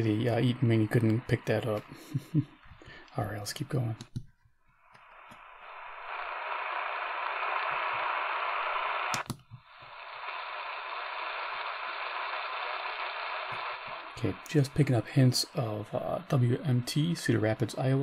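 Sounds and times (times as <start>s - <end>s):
radio static hiss: 0.0s - 4.0s, 4.8s - 18.0s
radio tuning click: 0.0s - 18.0s.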